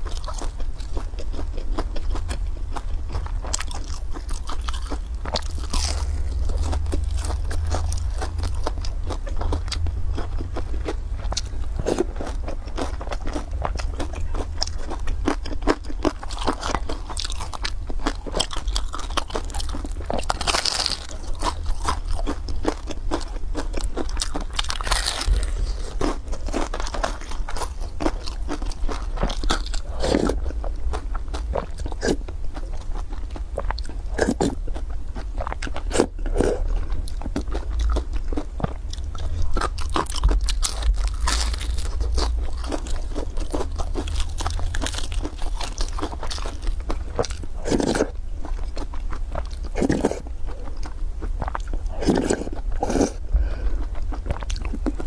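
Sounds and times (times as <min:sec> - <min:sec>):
close chewing and crunching: 0:00.0 - 0:55.0.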